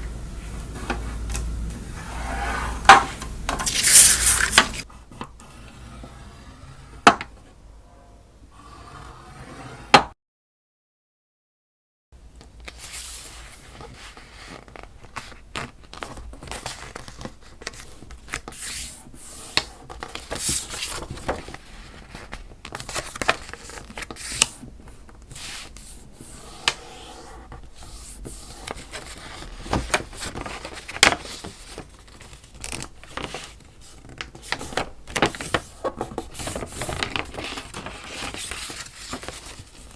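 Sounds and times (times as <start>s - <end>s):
paper rustling and scraping: 1.9s - 7.1s, 12.6s - 39.9s.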